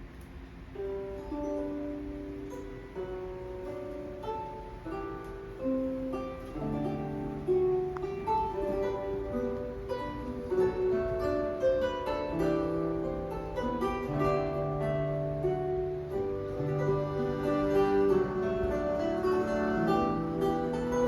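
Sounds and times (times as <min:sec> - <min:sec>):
plucked guitar music over loudspeakers: 0:00.8 - 0:21.0.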